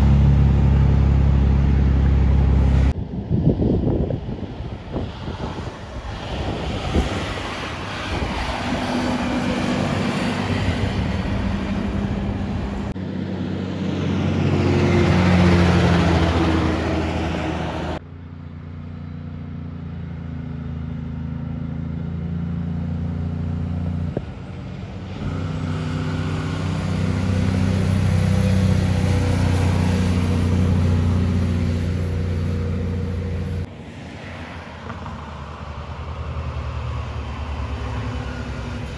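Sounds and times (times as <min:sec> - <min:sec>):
trucks driving past: 0:00.0 - 0:38.9
tyre and road noise: 0:00.0 - 0:38.9.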